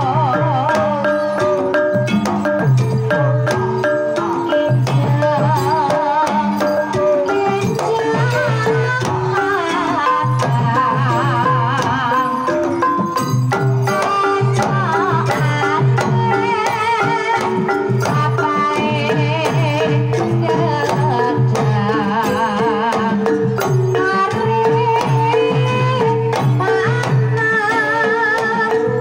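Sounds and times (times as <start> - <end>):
woman singing with vibrato: 0.0 - 1.8, 4.5 - 29.0.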